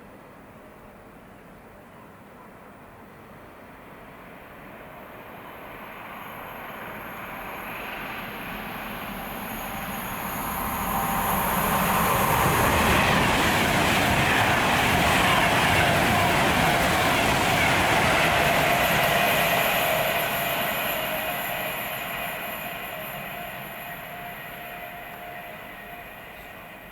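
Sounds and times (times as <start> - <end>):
train passing: 0.0 - 26.9.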